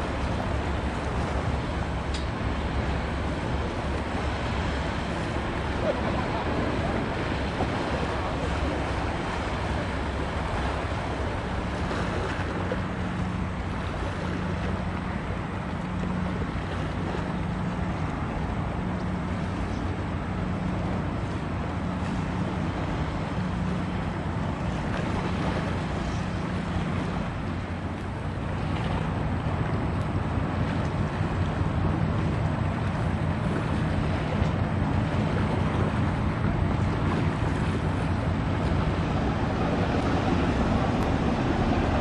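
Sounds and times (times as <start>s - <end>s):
low engine hum: 0.0s - 42.0s
water noise: 0.0s - 42.0s
wind: 0.0s - 42.0s.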